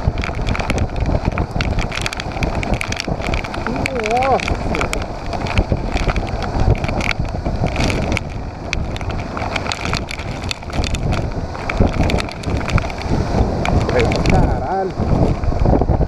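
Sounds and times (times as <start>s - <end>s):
knocks and rattles: 0.0s - 15.5s
motorcycle engine rumble: 0.0s - 16.0s
wind buffeting microphone: 0.0s - 16.0s.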